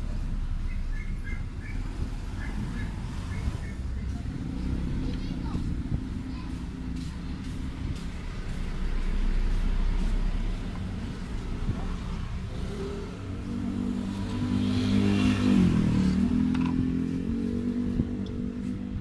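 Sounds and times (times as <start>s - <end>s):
motor vehicle engine running: 0.0s - 19.0s.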